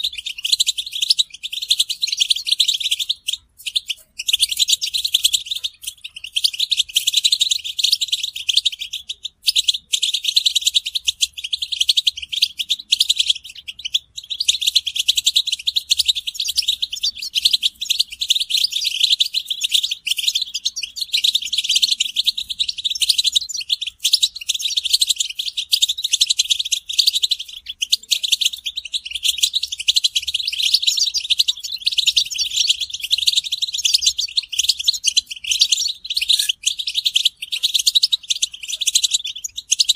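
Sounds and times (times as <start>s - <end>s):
flock of finches twittering: 0.0s - 39.9s.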